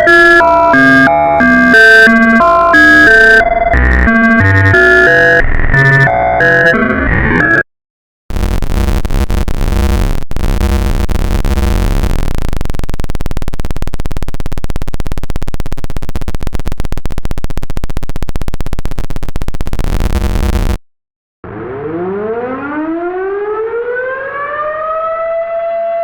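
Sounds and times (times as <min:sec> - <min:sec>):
distorted siren buzz pulsing: 0:00.0 - 0:07.6, 0:08.3 - 0:20.8, 0:21.4 - 0:24.7.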